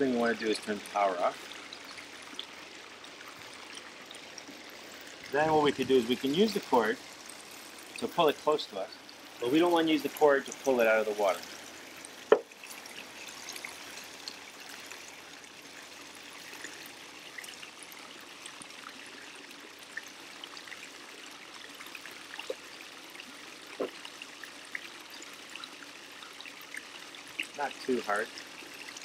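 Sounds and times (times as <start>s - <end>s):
water trickling into pool: 0.0s - 29.0s.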